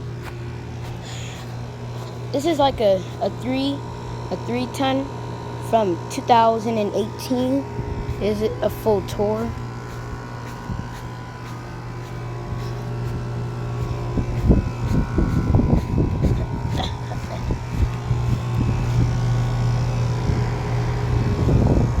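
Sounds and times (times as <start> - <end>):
air conditioner unit humming: 0.0 - 22.0.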